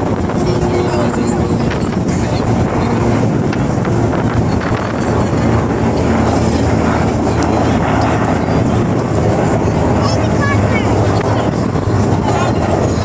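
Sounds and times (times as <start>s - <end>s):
ferry engines droning: 0.0s - 13.0s
wind buffeting microphone: 0.0s - 13.0s.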